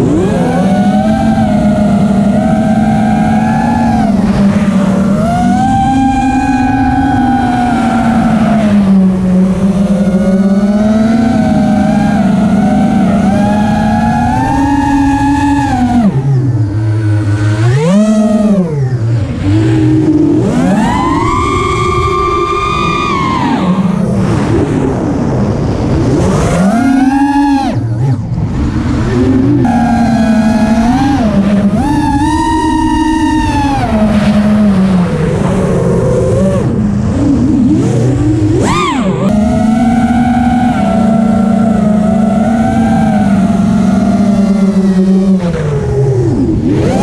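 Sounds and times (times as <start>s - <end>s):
drone motors whining: 0.0s - 47.0s.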